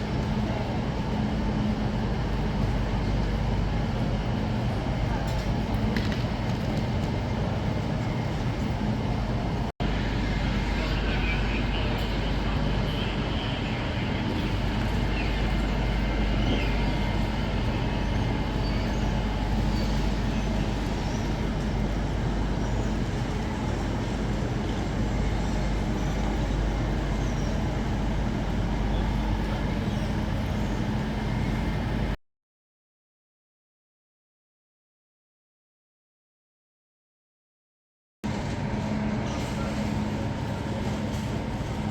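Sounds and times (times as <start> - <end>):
trains rumbling and humming: 0.0 - 32.2, 38.3 - 41.9.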